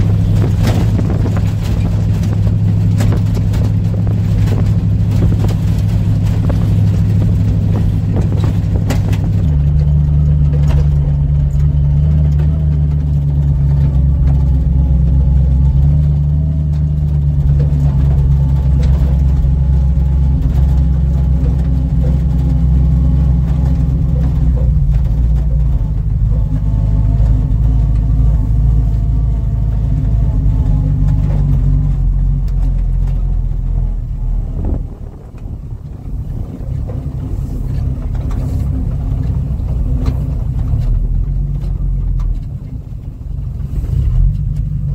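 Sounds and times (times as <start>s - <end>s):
pickup truck engine running: 0.0s - 44.9s.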